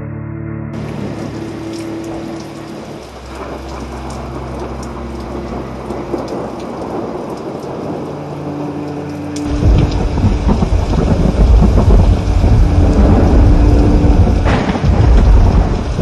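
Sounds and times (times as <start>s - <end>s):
distant thunder rumbling: 0.8s - 16.0s
steady rain falling: 0.8s - 16.0s.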